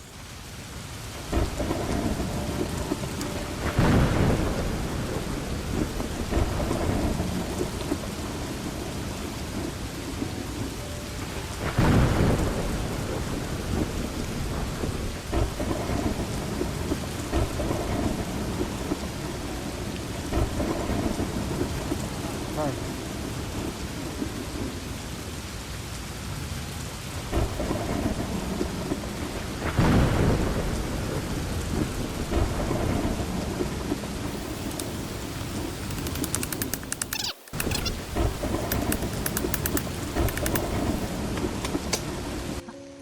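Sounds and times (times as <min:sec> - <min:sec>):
steady heavy rain: 0:00.0 - 0:43.0
thunder rumbling: 0:01.1 - 0:24.9, 0:27.2 - 0:42.6.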